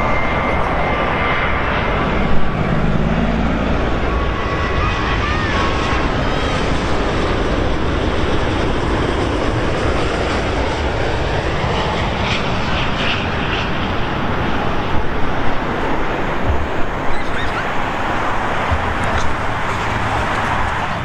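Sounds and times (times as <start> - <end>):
jet airliner rumble: 0.0 - 21.0.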